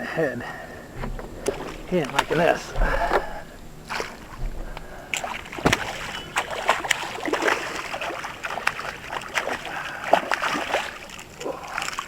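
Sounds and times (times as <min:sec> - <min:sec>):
water lapping: 0:00.0 - 0:12.0
fish splashing at water surface: 0:00.4 - 0:12.0.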